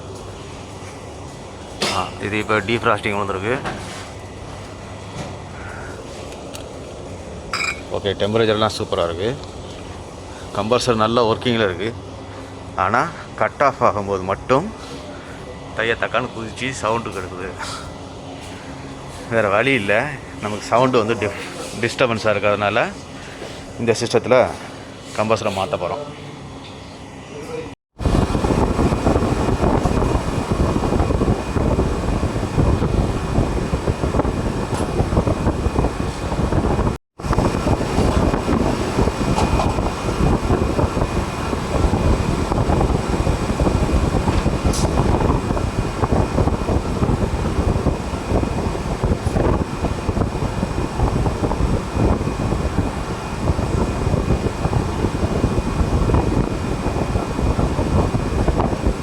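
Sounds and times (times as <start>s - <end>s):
refrigeration unit running: 0.0s - 59.0s.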